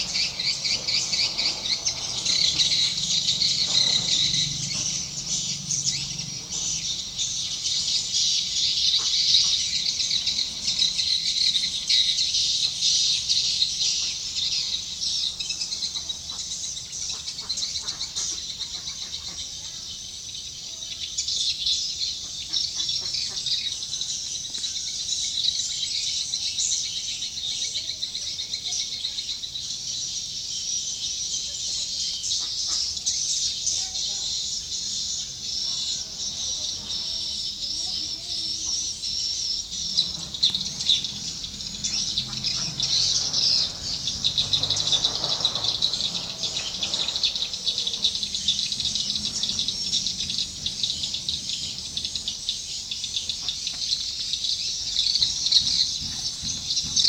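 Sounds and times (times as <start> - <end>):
birds twittering: 0.0 - 57.0.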